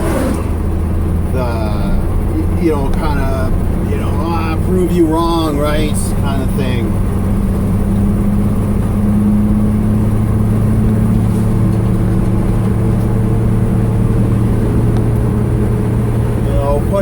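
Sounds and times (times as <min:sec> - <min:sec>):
engine and road noise in cab: 0:00.0 - 0:17.0.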